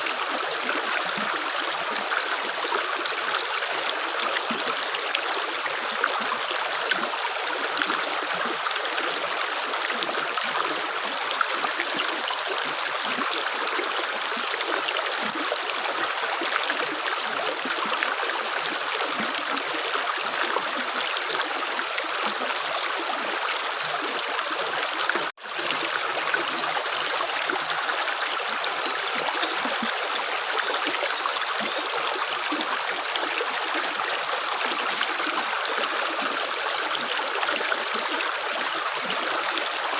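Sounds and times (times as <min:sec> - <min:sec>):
running water stream: 0:00.0 - 0:39.9.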